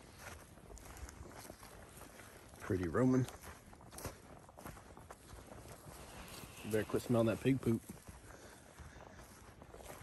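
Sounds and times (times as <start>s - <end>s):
footsteps on grass: 0.0s - 10.0s.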